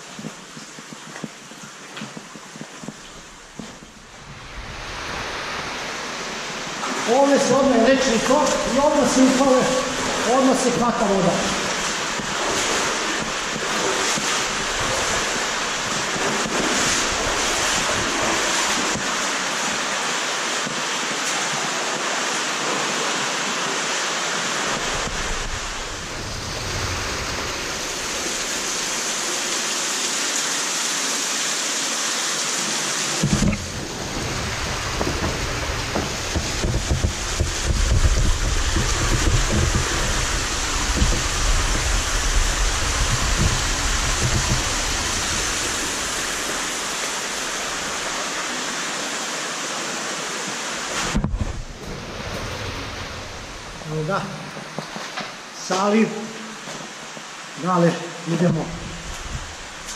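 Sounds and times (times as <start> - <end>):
low rumble of water: 0.0 - 31.3, 32.4 - 55.6, 56.3 - 59.9
underground stream rushing: 0.0 - 59.9.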